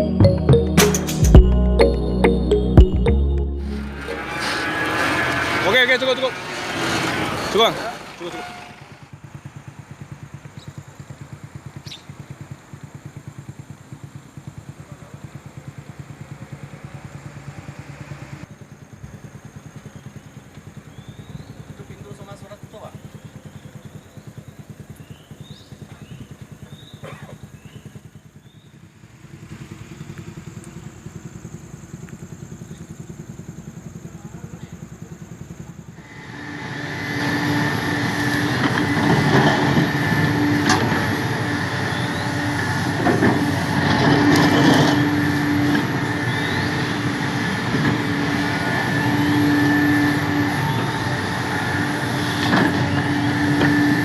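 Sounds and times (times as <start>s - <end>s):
steady machine whine: 0.0s - 9.8s, 15.4s - 54.0s
excavator diesel engine: 0.0s - 54.0s.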